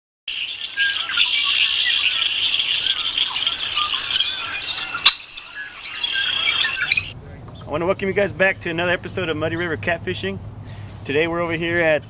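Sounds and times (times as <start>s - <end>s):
birds chirping: 0.3s - 10.0s.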